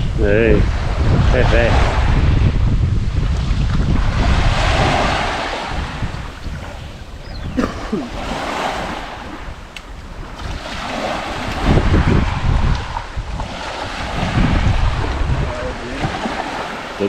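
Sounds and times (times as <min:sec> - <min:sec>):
waves washing on shore: 0:00.0 - 0:17.0
wind buffeting microphone: 0:00.0 - 0:17.0.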